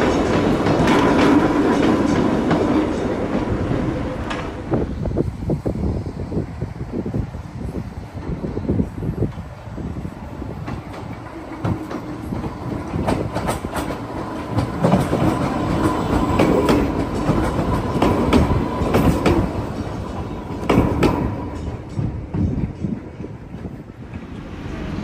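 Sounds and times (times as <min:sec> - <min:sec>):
train wheels clicking over rails: 0:00.0 - 0:05.2, 0:08.2 - 0:25.0
train rumble: 0:00.0 - 0:25.0.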